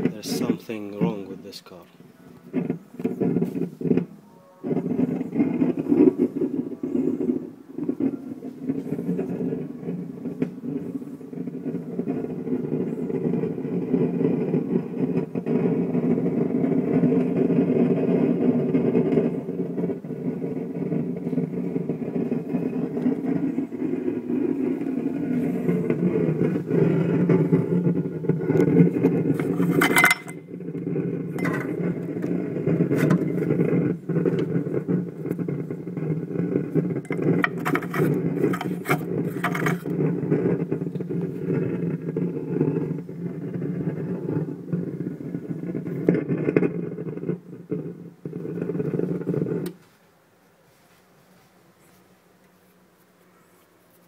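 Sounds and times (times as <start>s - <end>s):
bumper crackling rattle: 2.4s - 49.8s.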